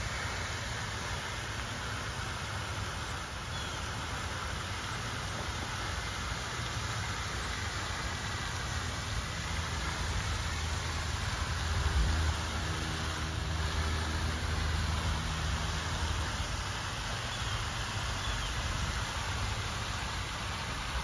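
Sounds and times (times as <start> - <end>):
fountain spray falling on water: 0.0 - 21.0
low engine-like hum: 0.0 - 21.0.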